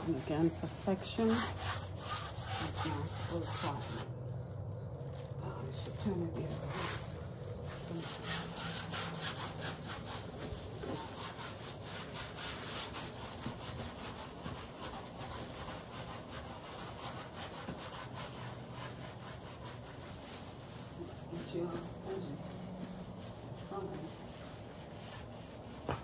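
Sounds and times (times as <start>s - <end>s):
hand scrubbing paint on canvas: 0.0s - 4.2s, 5.1s - 26.0s.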